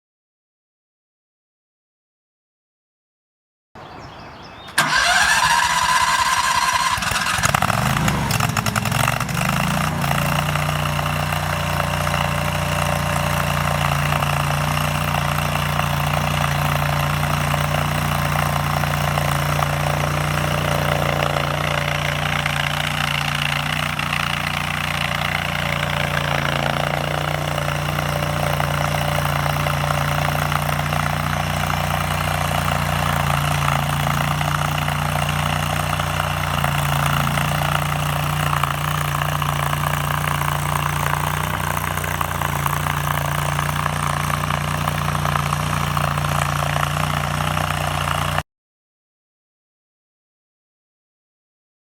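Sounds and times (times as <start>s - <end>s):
loader engine starting and idling: 4.6s - 48.4s.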